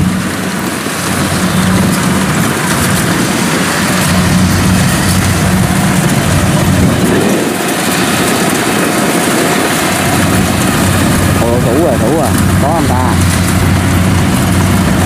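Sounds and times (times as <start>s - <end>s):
diesel engine hum: 0.0s - 15.0s
harvester machinery whirring: 0.0s - 15.0s.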